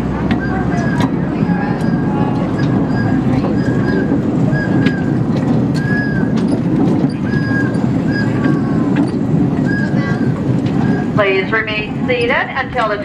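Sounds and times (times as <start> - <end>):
miniature train rumbling: 0.0 - 13.0
steel wheels squealing on rails: 0.0 - 13.0.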